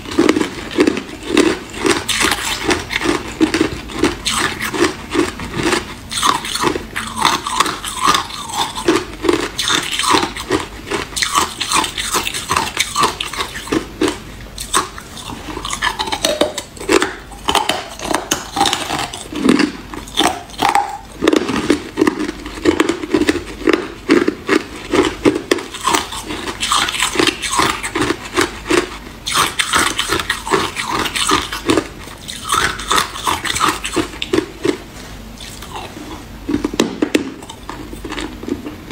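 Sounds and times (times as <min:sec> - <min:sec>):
ice cubes crunching: 0:00.1 - 0:34.8.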